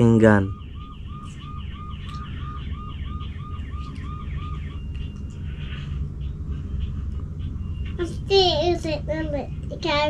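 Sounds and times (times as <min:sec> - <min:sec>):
electronic warbling chirps: 0:00.0 - 0:08.1
steady low rumble: 0:00.0 - 0:10.0.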